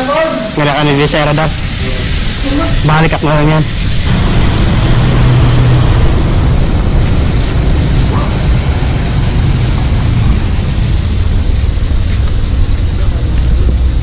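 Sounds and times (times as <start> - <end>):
loud low rumble with hiss: 0.0 - 14.0.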